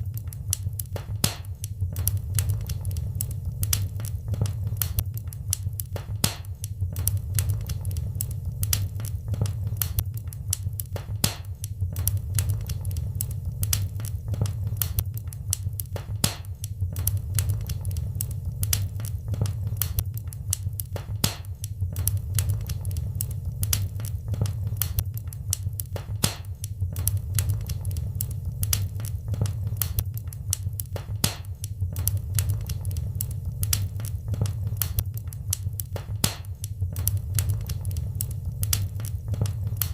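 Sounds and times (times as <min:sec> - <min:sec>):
low rumble of burning fire: 0:00.0 - 0:39.9
wood fire crackling and popping: 0:00.0 - 0:39.9.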